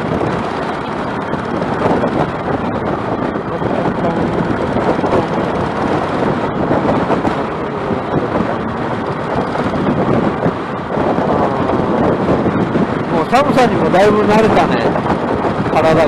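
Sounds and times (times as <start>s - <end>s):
motorcycle engine running: 0.0s - 15.8s
wind buffeting microphone: 0.0s - 16.0s.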